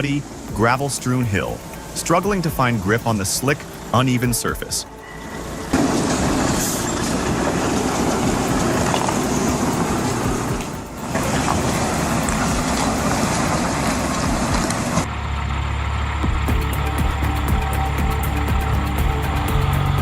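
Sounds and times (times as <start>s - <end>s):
heavy truck rushing noise: 0.0s - 20.0s
low steady engine drone: 0.0s - 20.0s.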